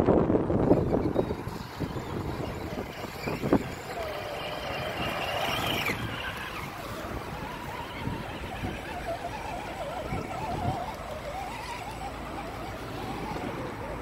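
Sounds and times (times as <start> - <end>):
rc car motor and gearbox whine: 0.2 - 14.0.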